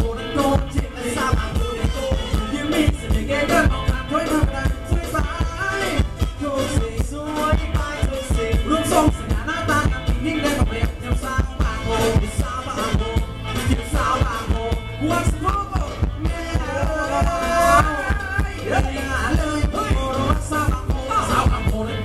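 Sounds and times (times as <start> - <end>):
person singing: 0.0 - 22.0
steady drum beat: 0.0 - 22.0.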